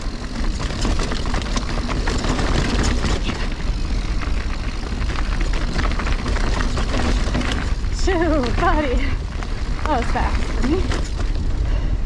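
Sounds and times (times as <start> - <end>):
bike rattling over rocks: 0.0 - 12.0
wind buffeting microphone: 0.0 - 12.0.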